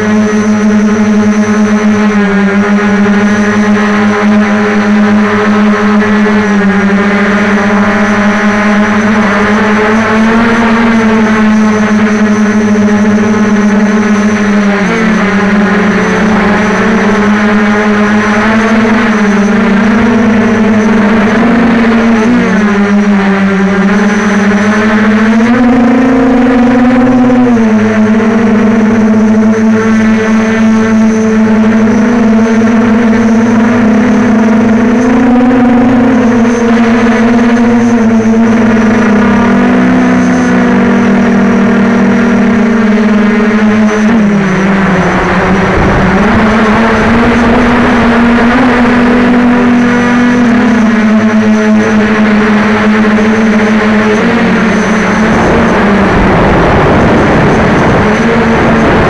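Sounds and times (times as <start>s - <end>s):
quadcopter motors buzzing: 0.0s - 59.0s.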